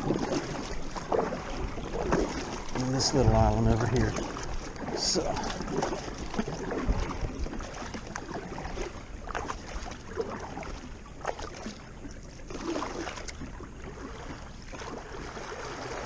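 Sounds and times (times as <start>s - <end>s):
kayak paddle splashing: 0.0s - 16.0s
water noise: 0.0s - 16.0s.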